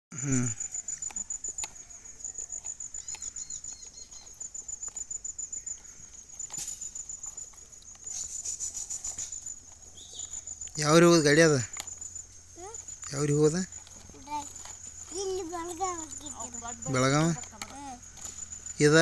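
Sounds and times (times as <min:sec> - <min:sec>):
crickets chirping: 0:00.1 - 0:19.0.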